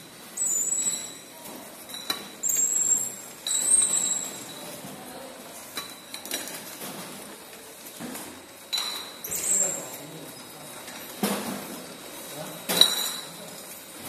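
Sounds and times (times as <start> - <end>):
glass bottles clinking on conveyor: 0.0 - 14.0.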